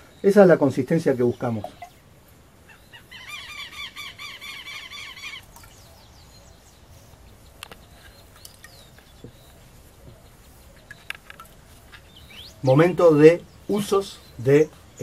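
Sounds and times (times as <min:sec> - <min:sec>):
faint bird chirps: 0:01.2 - 0:15.0.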